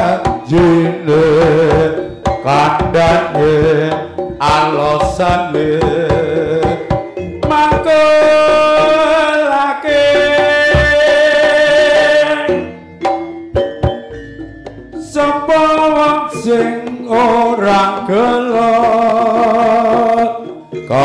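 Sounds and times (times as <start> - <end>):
drum strokes: 0.0 - 21.0
wavering melody line: 0.0 - 21.0.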